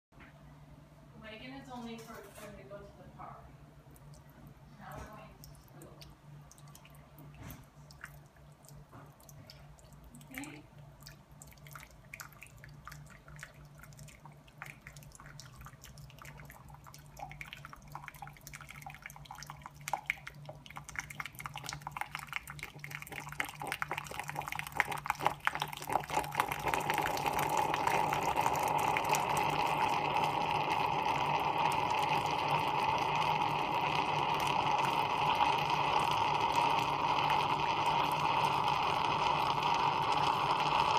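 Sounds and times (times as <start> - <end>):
coffee dripping into glass cup: 4.0 - 40.9.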